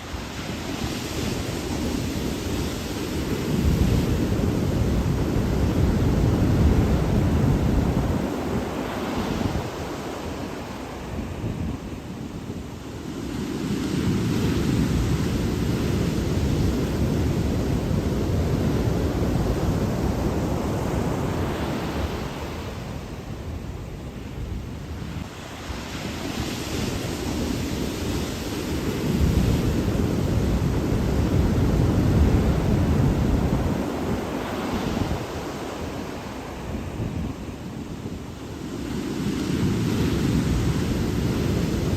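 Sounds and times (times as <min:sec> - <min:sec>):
ocean surf breaking: 0:00.0 - 0:41.9
wind rumbling on microphone: 0:00.0 - 0:41.9.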